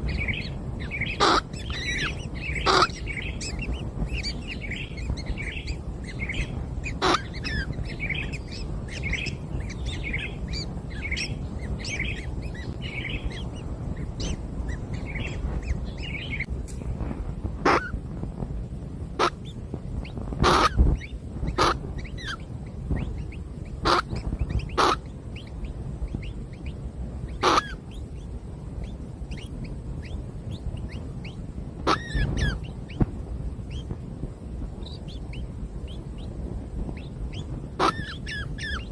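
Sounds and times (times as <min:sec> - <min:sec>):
nestlings begging chirps: 0:00.0 - 0:16.5, 0:17.5 - 0:18.4, 0:19.0 - 0:38.9
sharp bird calls: 0:00.0 - 0:16.5, 0:17.6 - 0:18.0, 0:19.2 - 0:34.0, 0:34.8 - 0:38.9
low rumble: 0:00.0 - 0:38.9.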